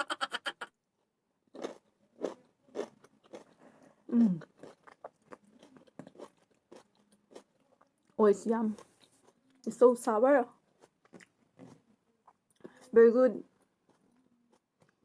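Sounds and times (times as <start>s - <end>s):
mouth chewing with soft crunches: 1.5s - 9.8s, 10.4s - 15.0s.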